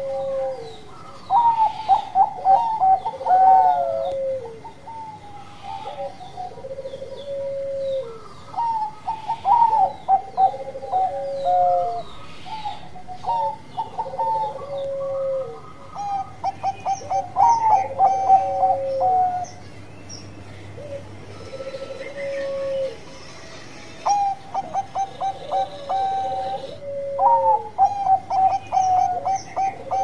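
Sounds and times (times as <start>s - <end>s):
dove cooing: 0.0s - 19.7s, 20.6s - 30.0s.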